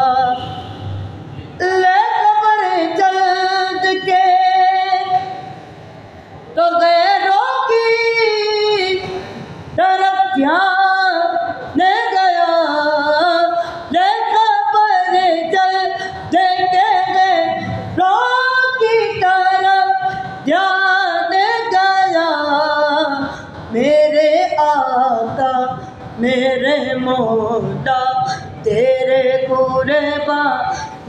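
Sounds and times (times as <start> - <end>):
person singing unaccompanied: 0.0 - 0.5, 1.6 - 5.6, 6.5 - 31.0.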